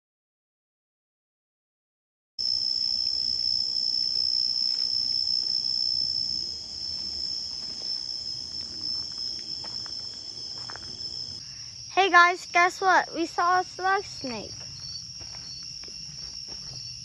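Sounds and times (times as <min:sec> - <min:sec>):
insects chorus at night: 0:02.4 - 0:17.0.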